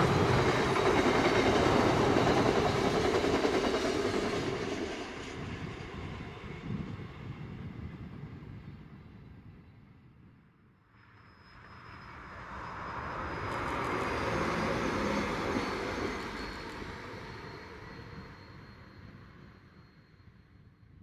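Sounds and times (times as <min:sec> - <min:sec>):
diesel train passing: 0:00.0 - 0:08.9, 0:11.0 - 0:20.9.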